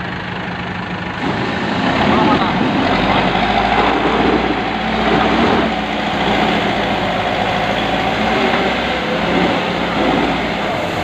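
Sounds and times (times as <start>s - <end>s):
diesel engine under load: 0.0s - 11.0s
steady high whine: 0.0s - 11.0s.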